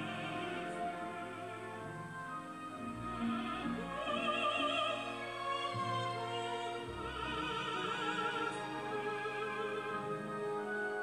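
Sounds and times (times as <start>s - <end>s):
operatic voice with orchestra: 0.0s - 11.0s.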